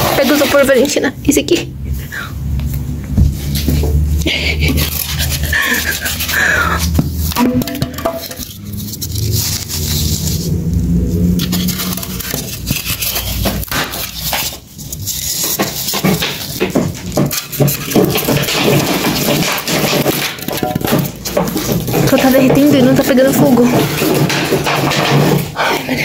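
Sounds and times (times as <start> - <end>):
styrofoam crackling and scraping: 0.0 - 1.5, 3.3 - 26.0.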